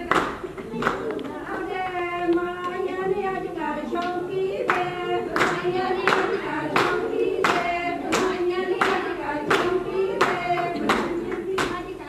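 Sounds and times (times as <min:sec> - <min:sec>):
hand clapping: 0:00.0 - 0:01.7, 0:04.0 - 0:12.0
women singing together: 0:00.0 - 0:12.0.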